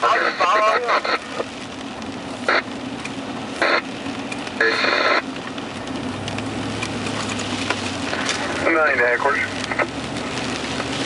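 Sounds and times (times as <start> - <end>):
radio static hiss: 0.0 - 5.9, 7.1 - 11.0.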